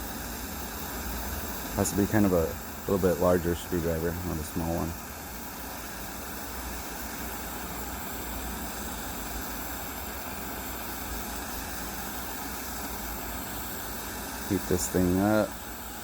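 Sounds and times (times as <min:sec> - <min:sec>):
gas torch flame burning: 0:00.0 - 0:16.0.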